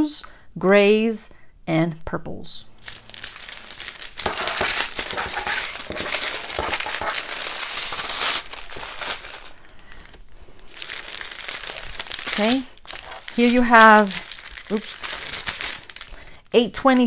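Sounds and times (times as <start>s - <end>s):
plastic packets crinkling: 2.8s - 17.0s.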